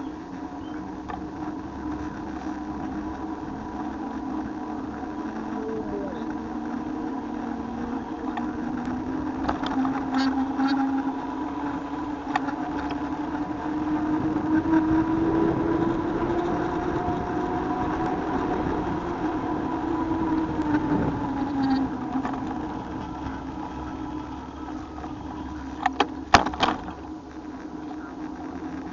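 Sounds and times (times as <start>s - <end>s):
motor humming: 0.0s - 28.9s
road and wind noise: 0.0s - 28.9s.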